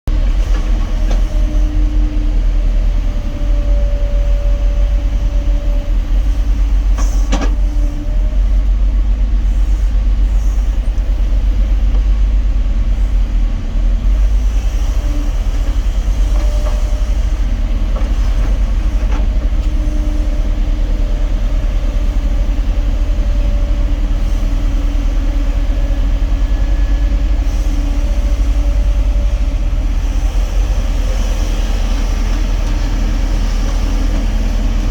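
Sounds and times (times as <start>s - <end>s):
excavator diesel rumble: 0.1s - 34.9s.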